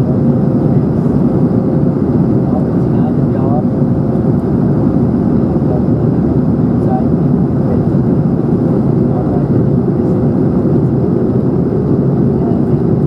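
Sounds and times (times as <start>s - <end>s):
aircraft cabin rumble: 0.0s - 13.0s
faint steady hum: 0.0s - 13.0s.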